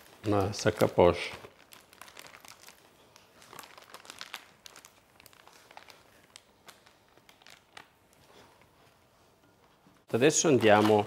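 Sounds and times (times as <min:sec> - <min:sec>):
plastic bag crinkling: 0:00.0 - 0:09.0, 0:10.1 - 0:11.0.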